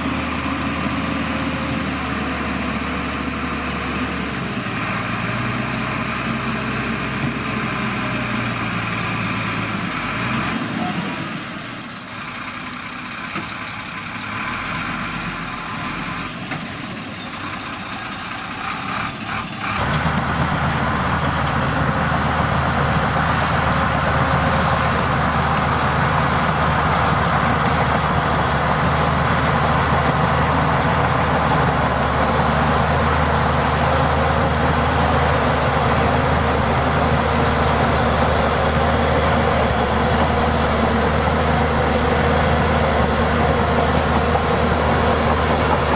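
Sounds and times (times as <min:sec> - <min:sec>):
heavy diesel engine running: 0:00.0 - 0:45.9.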